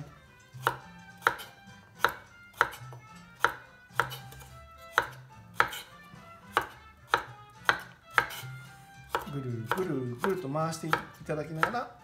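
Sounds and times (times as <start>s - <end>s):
knife cutting carrot: 0.0s - 12.0s
knife knocking on wooden board: 0.4s - 8.5s, 9.1s - 11.8s.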